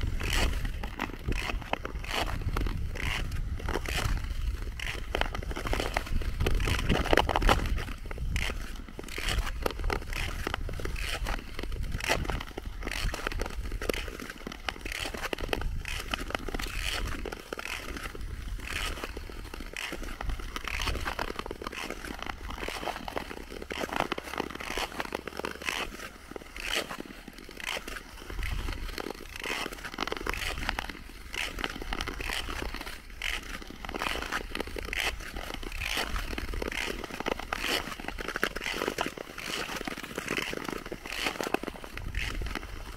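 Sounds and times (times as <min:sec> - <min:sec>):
skate blades scraping on ice: 0:00.0 - 0:42.9.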